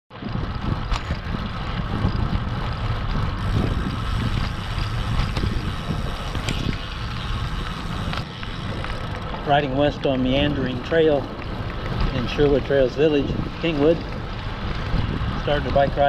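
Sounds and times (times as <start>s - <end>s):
tyres rumbling on pavement: 0.1s - 16.0s
wind buffeting microphone: 0.1s - 16.0s.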